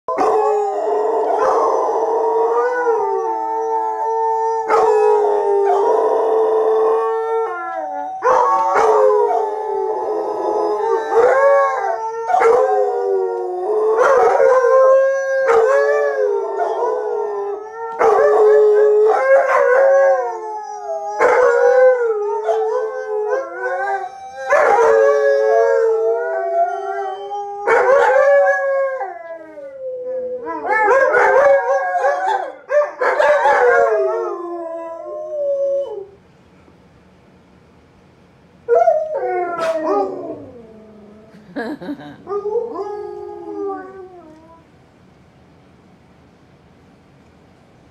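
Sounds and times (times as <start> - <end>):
dogs howling: 0.1 - 36.2, 38.7 - 44.6.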